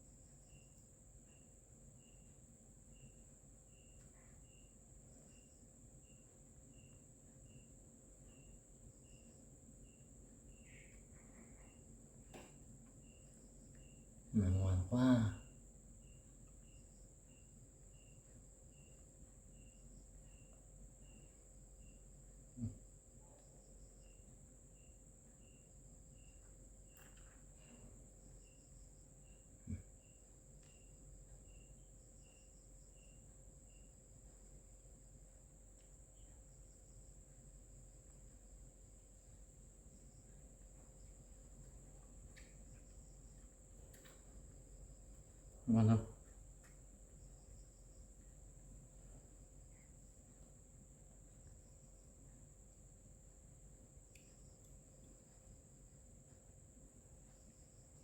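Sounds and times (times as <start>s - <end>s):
cricket chirp: 0.0s - 58.0s.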